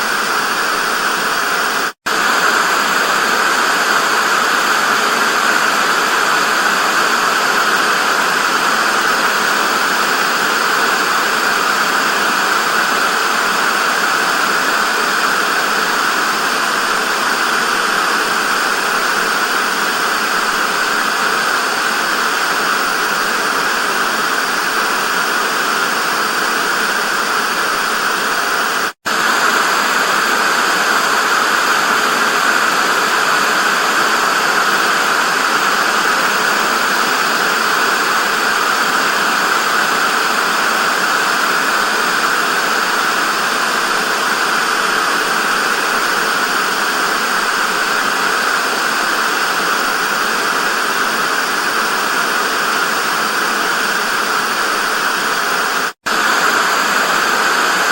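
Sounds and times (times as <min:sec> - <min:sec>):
television static hiss: 0:00.0 - 0:57.9.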